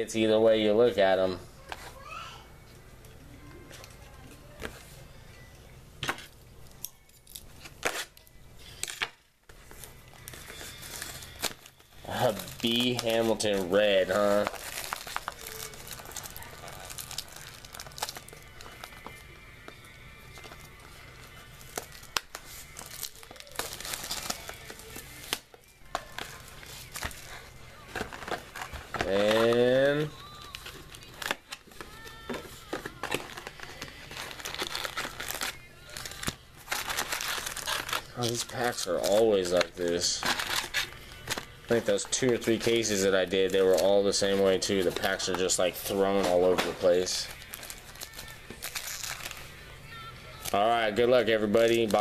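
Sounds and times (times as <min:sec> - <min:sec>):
foil wrappers crinkling: 0:06.6 - 0:52.0.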